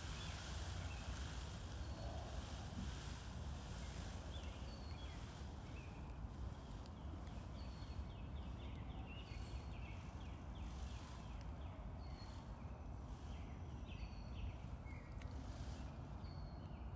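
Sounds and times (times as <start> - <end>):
low outdoor rumble: 0.0 - 16.3
small birds chirping: 0.0 - 16.9.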